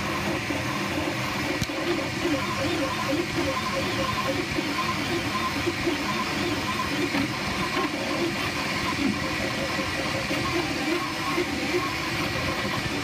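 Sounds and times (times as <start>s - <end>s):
printer stepper motors whirring: 0.0s - 13.0s.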